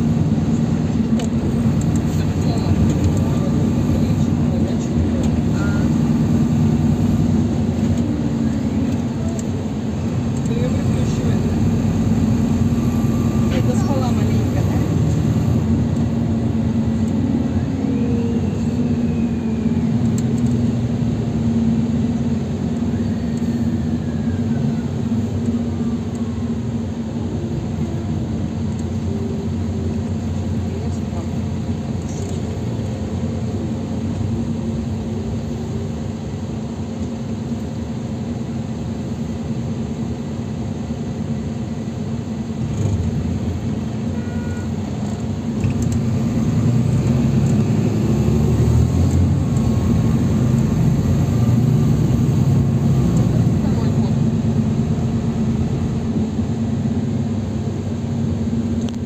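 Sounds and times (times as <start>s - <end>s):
bus diesel engine drone: 0.0s - 59.0s
road rumble: 0.0s - 59.0s.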